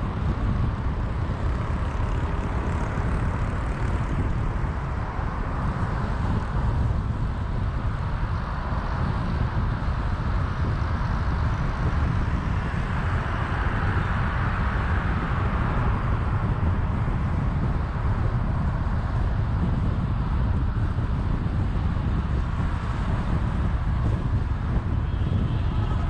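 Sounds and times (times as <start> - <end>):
tyre and wind rumble: 0.0 - 26.0.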